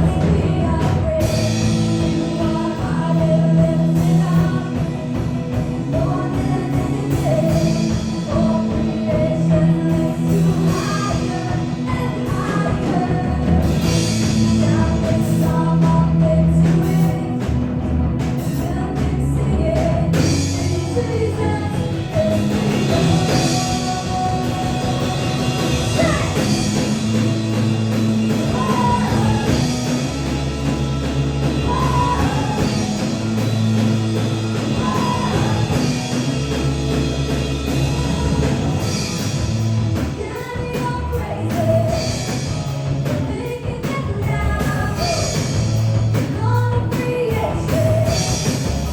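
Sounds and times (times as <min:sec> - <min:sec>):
rock song with singer and band: 0:00.0 - 0:48.9
steady bass line: 0:00.0 - 0:48.9.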